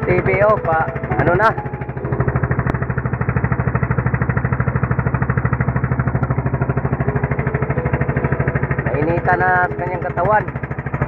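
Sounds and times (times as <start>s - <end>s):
small boat engine puttering: 0.0s - 11.0s.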